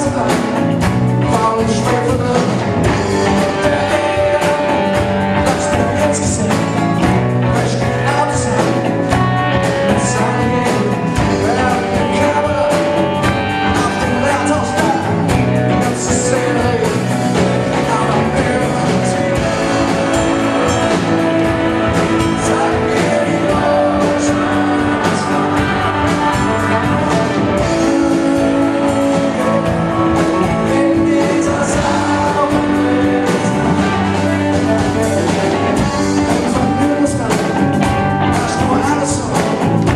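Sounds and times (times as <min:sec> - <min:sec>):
man singing: 0:00.0 - 0:39.9
rock band playing: 0:00.0 - 0:39.9.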